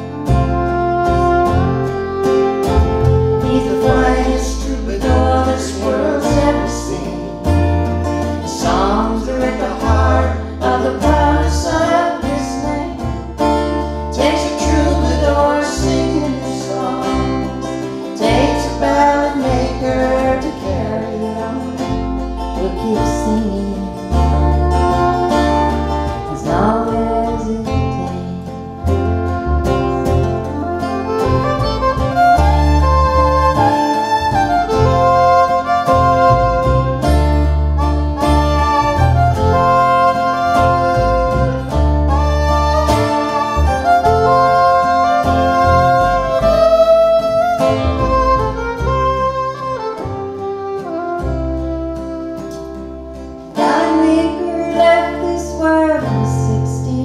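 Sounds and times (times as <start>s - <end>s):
acoustic guitar: 0.0s - 57.0s
fiddle: 0.0s - 57.0s
upright bass walking low notes: 0.0s - 57.0s.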